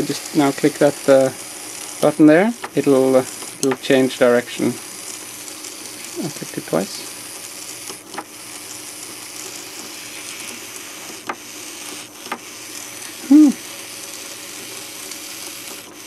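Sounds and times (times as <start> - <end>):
geared motors whirring: 0.0 - 16.0.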